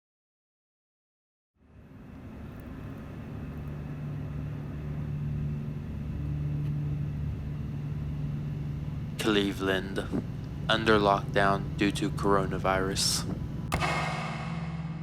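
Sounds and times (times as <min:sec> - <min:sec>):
constant hum: 0:01.6 - 0:15.0.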